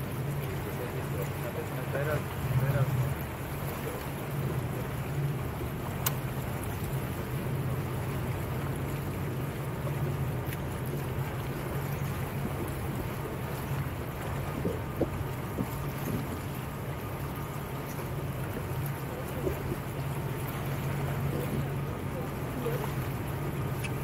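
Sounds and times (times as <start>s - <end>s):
motorboat engine humming: 0.0s - 24.0s
water rushing along hull: 0.0s - 24.0s.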